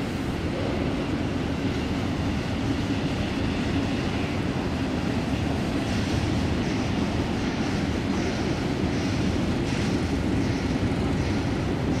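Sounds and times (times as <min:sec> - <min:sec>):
electric train rumbling on tracks: 0:00.0 - 0:12.0.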